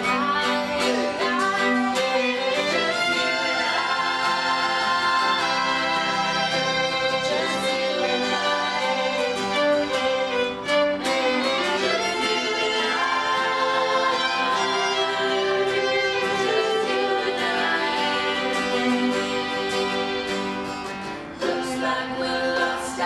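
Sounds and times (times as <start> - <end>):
violin melody with held notes: 0.0 - 21.2
live band playing slow song: 0.0 - 22.0.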